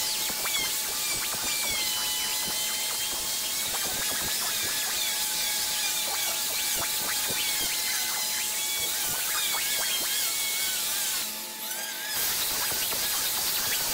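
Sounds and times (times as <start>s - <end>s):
orbital sander on wood: 0.0s - 13.9s.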